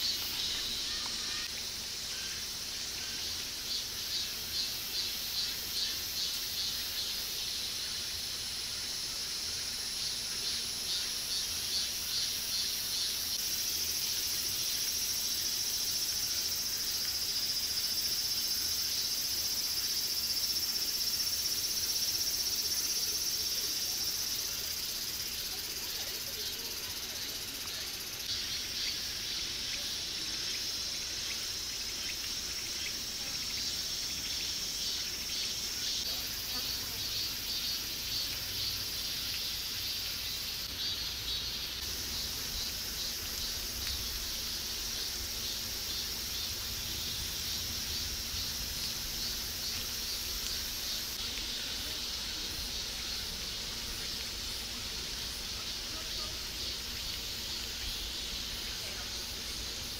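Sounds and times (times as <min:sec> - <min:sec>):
high-pitched insects chorus: 0:00.0 - 0:59.9.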